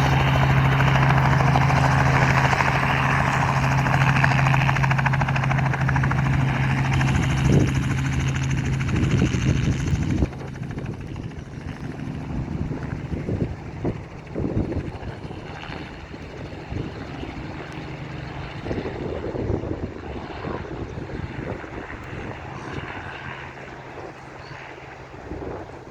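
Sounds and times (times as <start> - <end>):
gusty low rumbles: 0.0 - 23.1
helicopter rotor and engine drone: 0.0 - 25.9.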